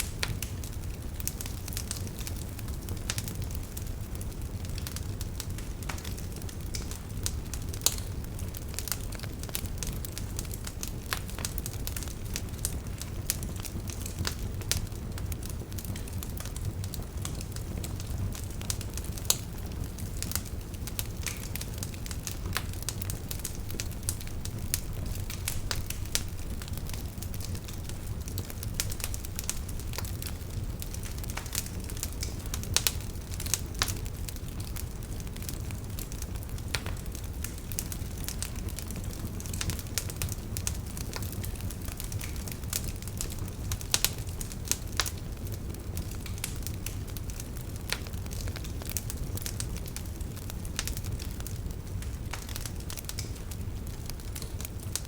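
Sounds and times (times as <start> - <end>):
fire pops and snaps: 0.0 - 55.0
low rumble of flame: 0.0 - 55.0
wood fire crackling: 0.0 - 55.0.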